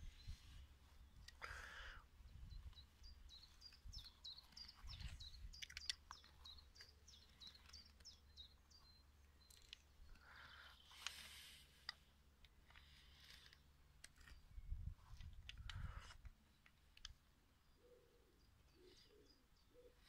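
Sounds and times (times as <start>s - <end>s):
bird chirping: 0.0s - 11.6s, 14.2s - 20.0s.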